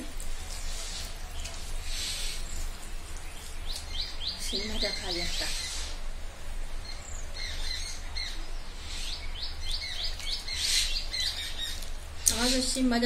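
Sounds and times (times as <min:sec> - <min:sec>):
small bird chirping: 0:00.6 - 0:06.0, 0:06.8 - 0:12.9.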